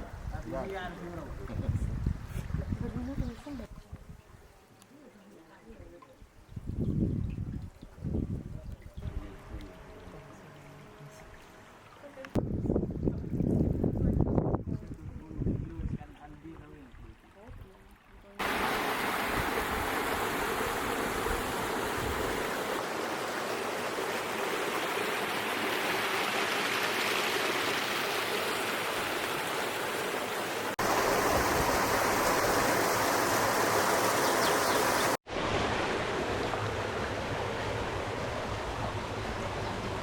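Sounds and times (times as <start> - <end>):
running water in a stream: 0.0 - 40.0.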